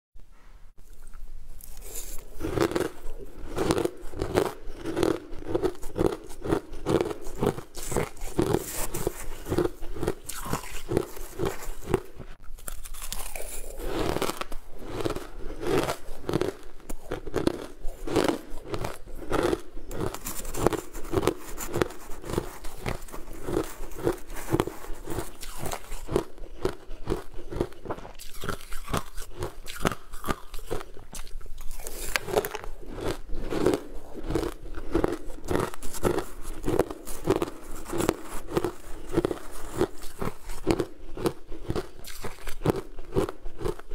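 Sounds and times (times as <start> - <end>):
ice being chewed: 0.8 - 43.9.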